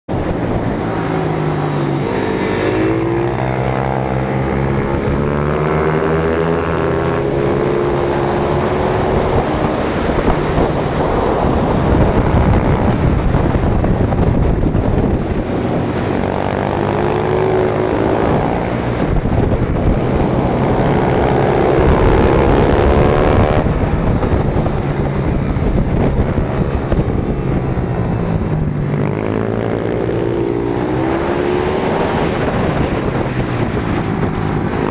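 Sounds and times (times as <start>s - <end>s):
motorbike engine revving: 0.2s - 34.9s.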